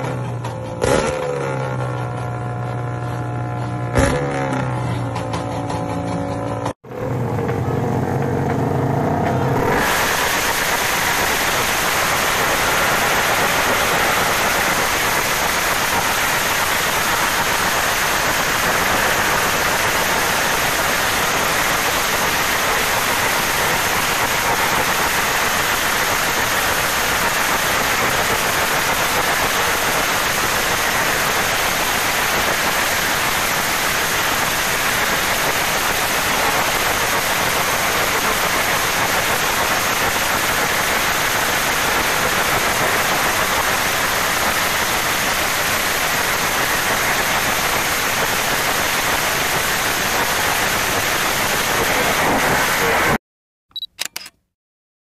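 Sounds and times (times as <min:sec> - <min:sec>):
motorcycle exhaust crackling and popping: 0:00.0 - 0:52.9
engine at high revs: 0:00.0 - 0:53.2.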